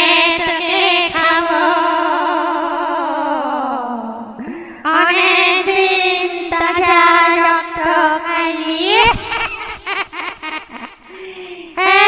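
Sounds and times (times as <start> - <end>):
high voice singing: 0.0 - 9.9, 11.2 - 12.0.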